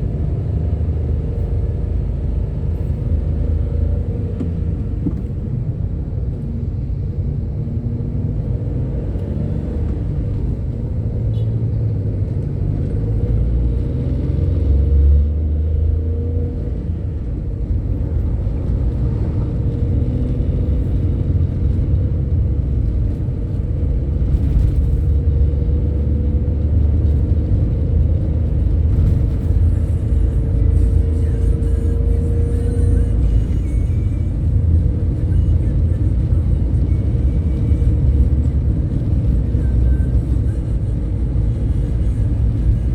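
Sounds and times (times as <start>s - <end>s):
bus engine and road rumble: 0.0s - 42.9s.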